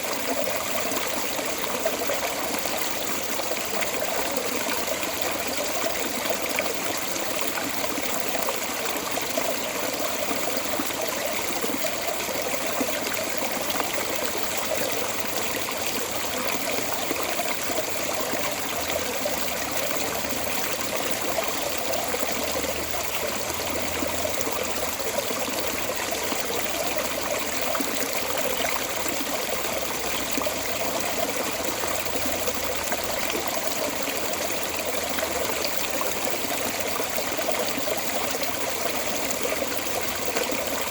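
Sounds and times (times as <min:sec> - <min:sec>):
water pouring from drain outlet: 0:00.0 - 0:40.9.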